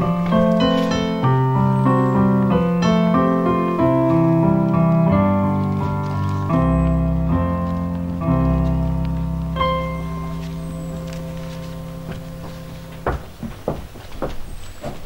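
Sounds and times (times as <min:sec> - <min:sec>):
deep piano bass notes: 0:00.0 - 0:14.3
solo piano melody: 0:00.0 - 0:14.7.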